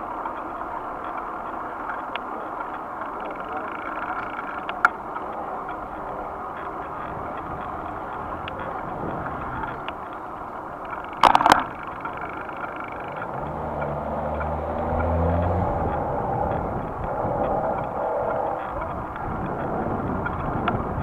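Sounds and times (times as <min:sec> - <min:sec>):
bicycle road and wind noise: 0:00.0 - 0:21.0.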